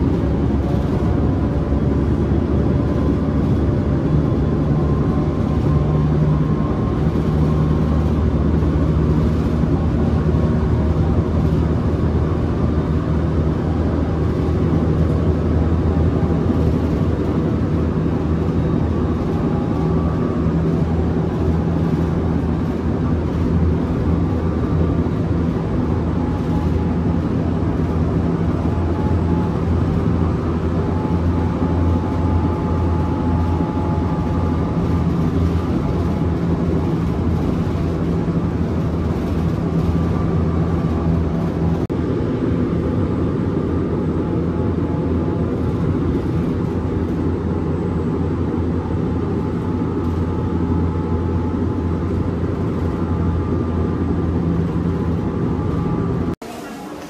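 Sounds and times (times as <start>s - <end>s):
constant low hum: 0.0s - 56.4s
train wheels rumbling on track: 0.0s - 57.0s.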